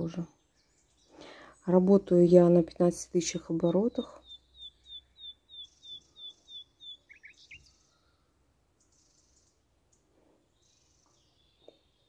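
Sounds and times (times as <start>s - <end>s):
small bird chirping: 0.0s - 2.6s, 3.2s - 12.0s.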